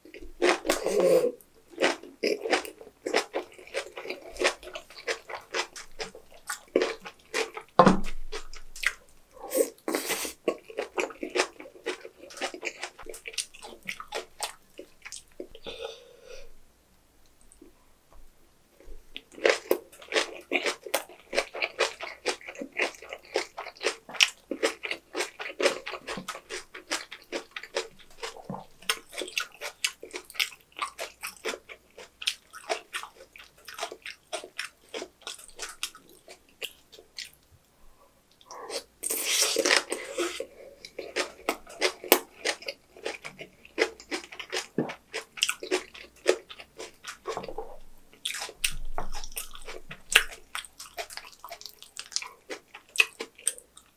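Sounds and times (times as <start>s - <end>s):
wet chewing and crunching: 0.0s - 1.0s, 1.7s - 15.6s, 19.2s - 37.4s, 38.3s - 53.9s.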